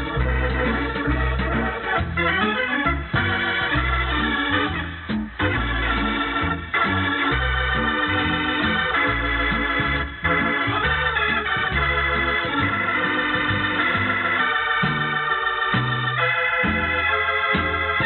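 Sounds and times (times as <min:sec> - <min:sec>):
organ music on old radio recording: 0:00.0 - 0:18.0.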